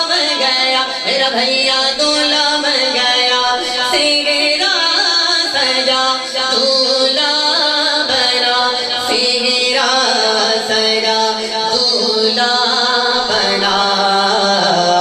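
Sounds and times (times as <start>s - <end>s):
man singing through pa system: 0.0s - 15.0s.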